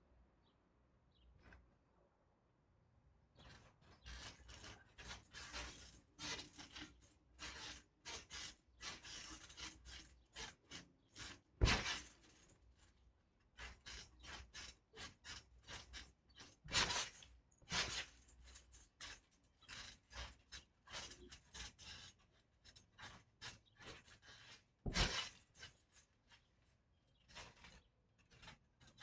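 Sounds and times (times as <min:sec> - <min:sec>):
trampoline springs creaking: 0:03.4 - 0:29.0.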